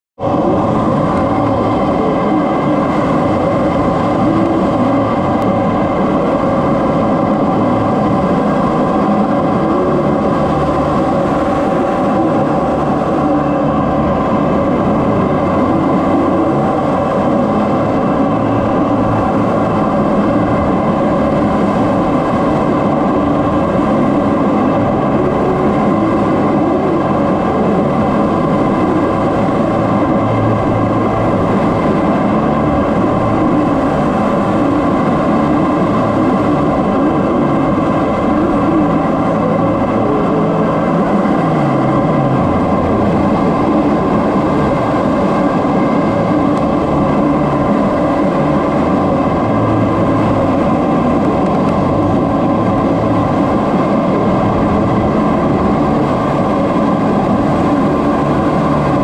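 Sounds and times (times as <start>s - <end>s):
airflow over canopy: 0.2s - 59.0s
jet engine running: 0.2s - 59.0s
steady whining tones: 0.2s - 59.0s.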